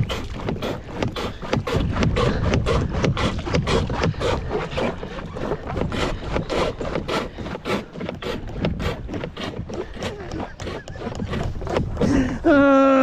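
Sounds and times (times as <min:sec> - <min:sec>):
paddle splashing water: 0:00.0 - 0:12.5.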